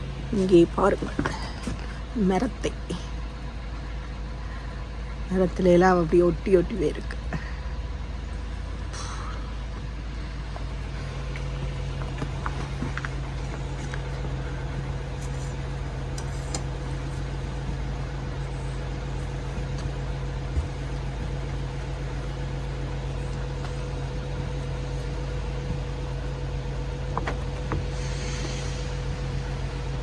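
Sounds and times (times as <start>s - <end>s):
faint constant tone: 0.0s - 30.0s
low mechanical hum: 0.0s - 30.0s.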